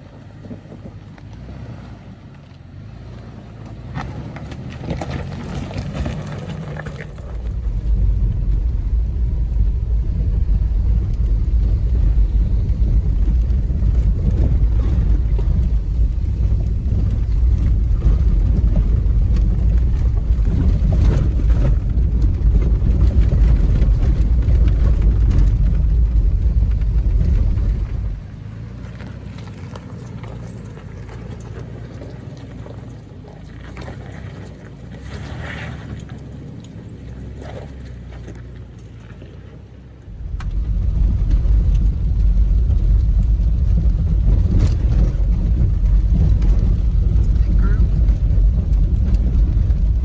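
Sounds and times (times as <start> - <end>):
vehicle rumbling off-road: 0.0 - 50.0.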